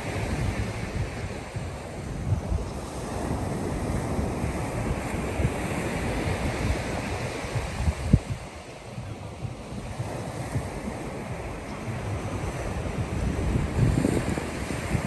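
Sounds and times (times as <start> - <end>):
ocean surf on beach: 0.0 - 15.0
wind buffeting microphone: 0.0 - 15.0.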